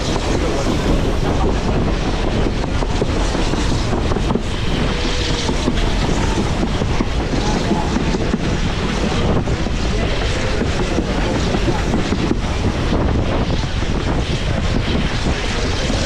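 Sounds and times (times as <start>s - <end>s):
train wheels rumbling on rail: 0.0s - 16.0s
wind buffeting microphone: 0.0s - 16.0s.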